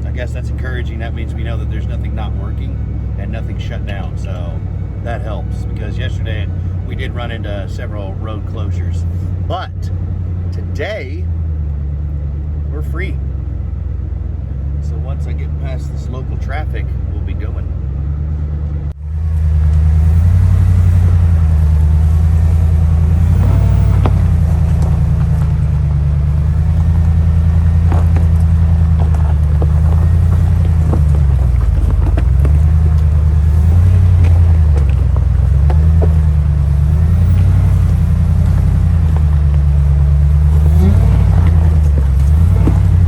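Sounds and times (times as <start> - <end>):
vehicle engine at low revs: 0.0 - 43.0.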